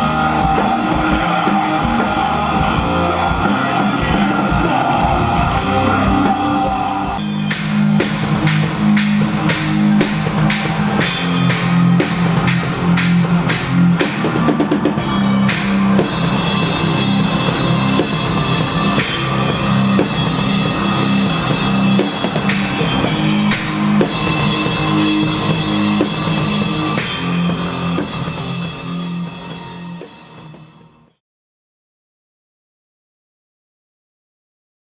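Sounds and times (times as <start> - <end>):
drum kit beating: 0.0 - 31.0
rock band playing live: 0.0 - 31.0.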